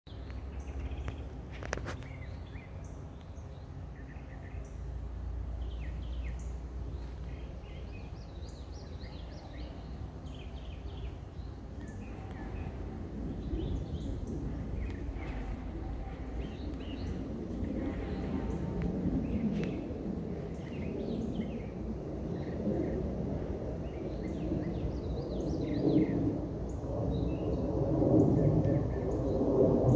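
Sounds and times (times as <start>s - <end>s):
birds chirping: 0.1s - 29.6s
steady low rumble: 0.1s - 29.9s.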